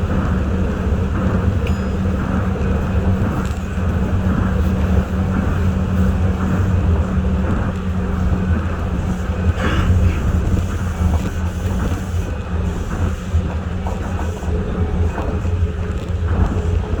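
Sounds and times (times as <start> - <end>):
train running low drone: 0.0 - 17.0.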